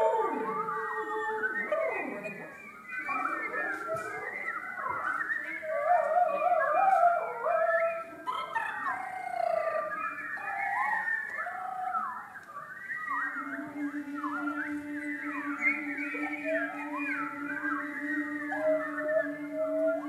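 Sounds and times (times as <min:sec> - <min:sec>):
choir singing sliding glissandi: 0:00.0 - 0:20.0.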